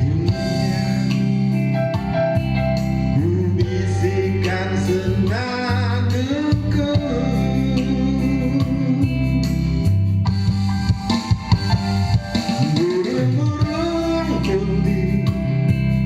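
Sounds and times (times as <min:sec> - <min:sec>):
slow pop ballad: 0:00.0 - 0:16.0.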